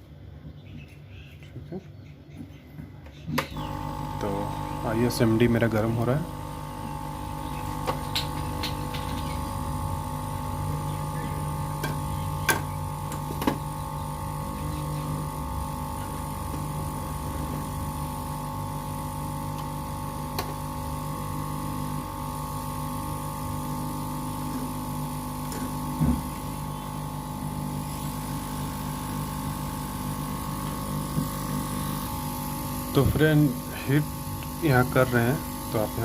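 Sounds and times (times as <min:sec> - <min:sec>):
hot-air blower humming: 0:03.3 - 0:36.0.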